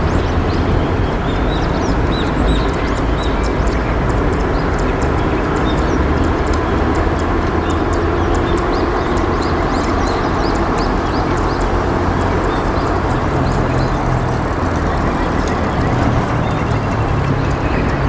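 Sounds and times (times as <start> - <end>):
loud steady rumbling: 0.0 - 18.0
small bird chirping: 0.0 - 18.0.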